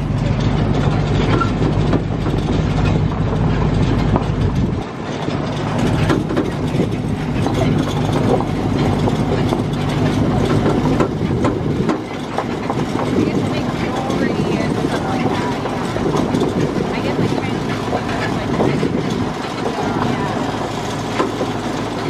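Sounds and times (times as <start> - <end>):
tractor engine running: 0.0 - 22.0
wagon clattering: 0.0 - 22.0.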